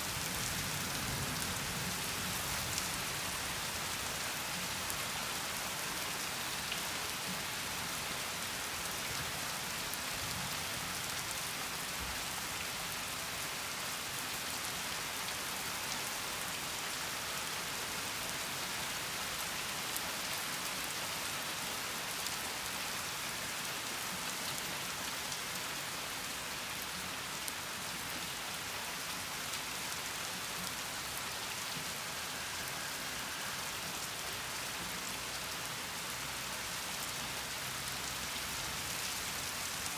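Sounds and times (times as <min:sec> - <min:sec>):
rain falling on roofs: 0:00.0 - 0:39.9.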